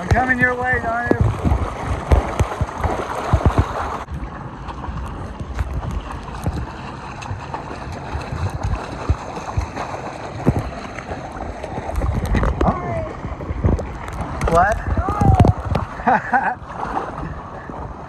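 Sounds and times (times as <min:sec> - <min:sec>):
water sloshing and splashing: 0:00.0 - 0:18.0
wind buffeting microphone: 0:00.0 - 0:18.0.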